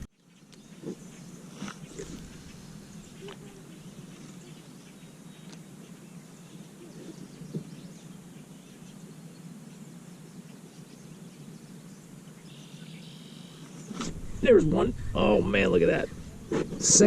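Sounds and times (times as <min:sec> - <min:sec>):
faint bird chirps: 0:00.0 - 0:16.5
steady low hum: 0:00.0 - 0:17.0.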